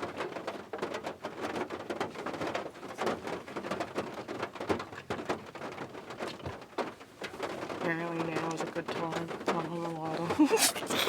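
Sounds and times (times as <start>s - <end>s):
raindrops tapping: 0.0s - 11.0s.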